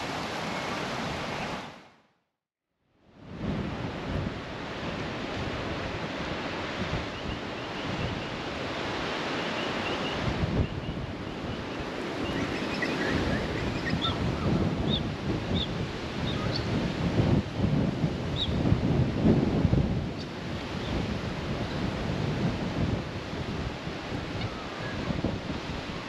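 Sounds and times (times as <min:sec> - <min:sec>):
wind buffeting microphone: 0:03.2 - 0:26.0.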